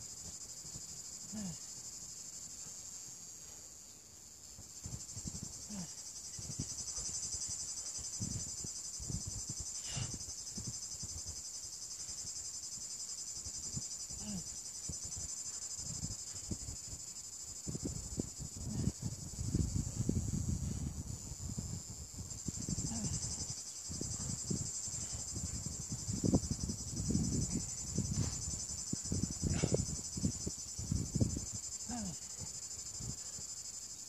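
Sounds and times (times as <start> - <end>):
cicadas buzzing: 4.4 - 34.0.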